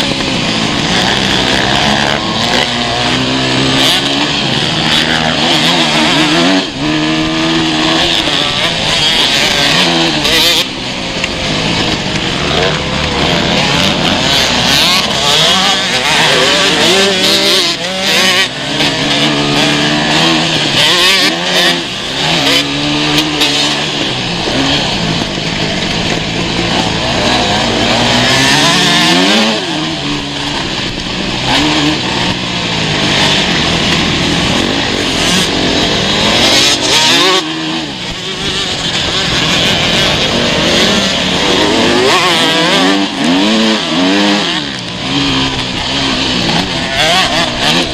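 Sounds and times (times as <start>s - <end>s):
motocross bikes revving: 0.0s - 47.9s.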